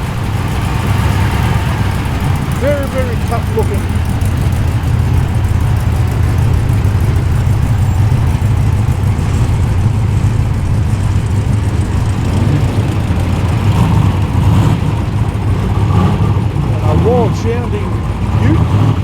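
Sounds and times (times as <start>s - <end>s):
car engine deep rumble: 0.0s - 19.0s.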